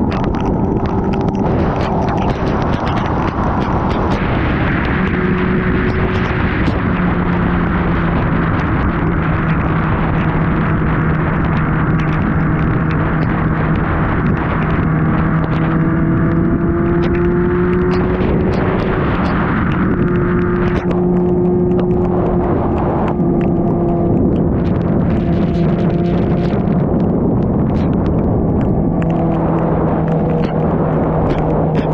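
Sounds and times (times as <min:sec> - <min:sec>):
motorcycle engine cruising: 0:00.0 - 0:31.9
rain ticking on camera: 0:00.0 - 0:31.9
wind rush: 0:00.0 - 0:31.9.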